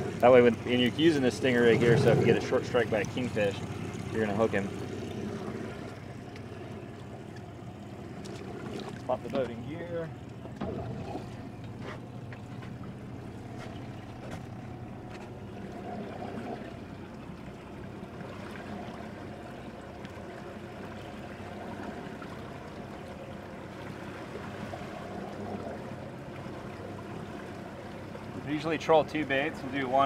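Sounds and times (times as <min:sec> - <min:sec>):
boat engine humming: 0:00.0 - 0:30.0
water washing along hull: 0:00.0 - 0:30.0.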